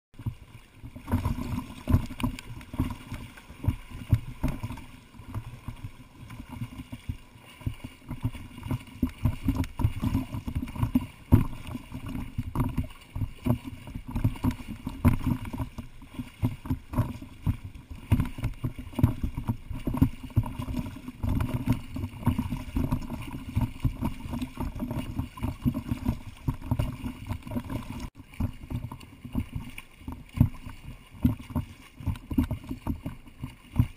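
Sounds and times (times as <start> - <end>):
swimmer splashing: 0.2 - 33.9
water sloshing and splashing: 0.2 - 33.9.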